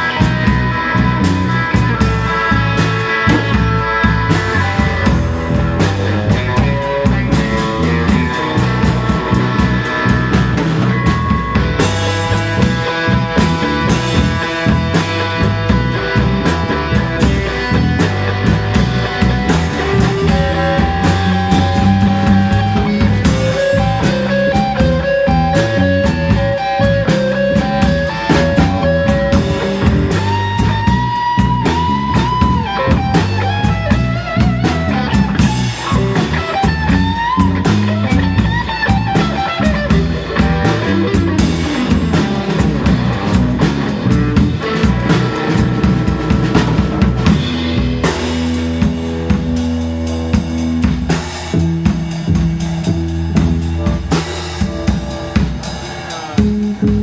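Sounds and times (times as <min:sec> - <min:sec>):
blues band playing: 0:00.0 - 0:57.0
lead guitar line with bent notes: 0:00.0 - 0:57.0.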